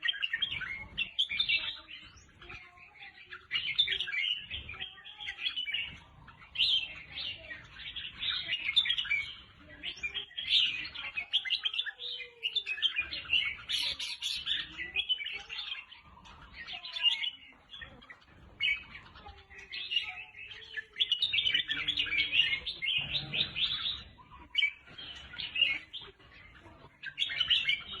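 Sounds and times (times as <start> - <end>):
bird chirping song: 0.0 - 28.0.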